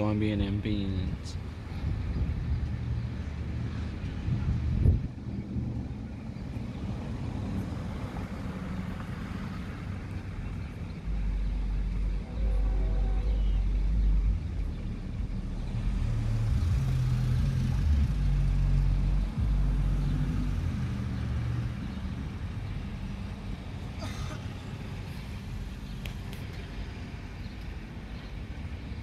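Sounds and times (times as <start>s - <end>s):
low vehicle rumble: 0.0s - 29.0s.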